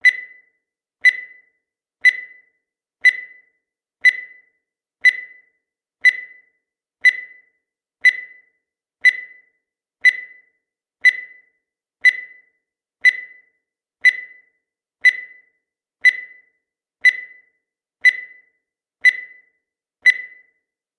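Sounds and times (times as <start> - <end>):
high-pitched timer ticks: 0.0 - 20.7.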